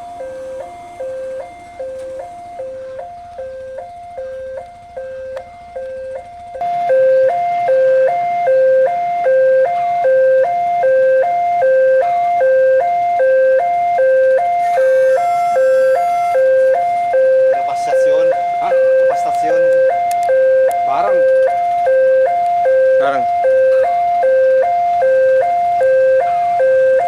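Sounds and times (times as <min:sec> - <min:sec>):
level crossing alarm ding-dong: 0:00.0 - 0:27.0.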